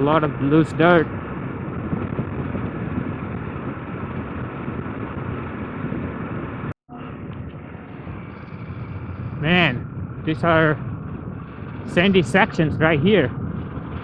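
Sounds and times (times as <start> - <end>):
motorcycle engine running: 0.0 - 14.0
wind: 0.0 - 14.0.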